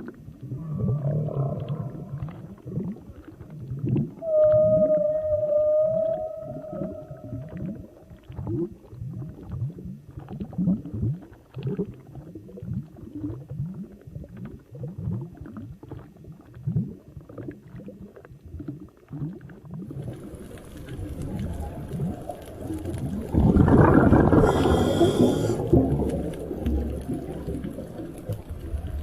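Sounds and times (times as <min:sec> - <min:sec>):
clear held underwater tone: 0:00.0 - 0:29.0.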